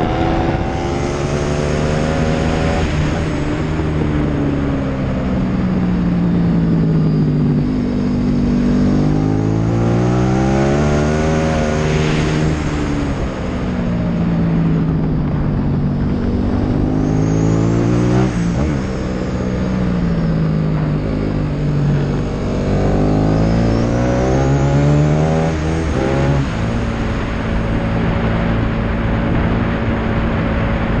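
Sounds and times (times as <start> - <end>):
motorcycle engine revving: 0.0 - 31.0
wind rushing over camera: 0.0 - 31.0.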